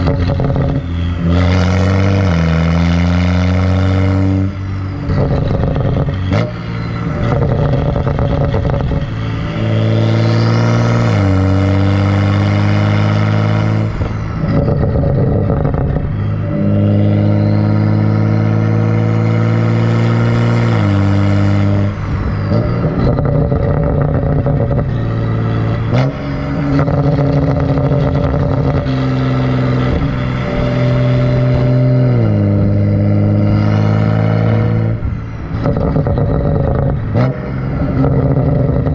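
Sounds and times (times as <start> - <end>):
loud raspy car exhaust: 0.0 - 38.9.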